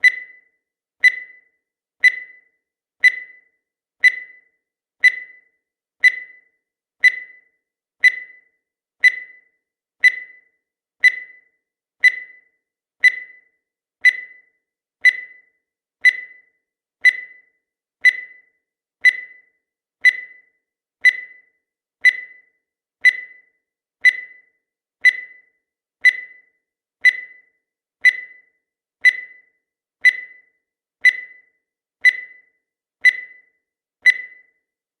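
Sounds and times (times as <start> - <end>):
high-pitched timer ticks: 0.0 - 34.8.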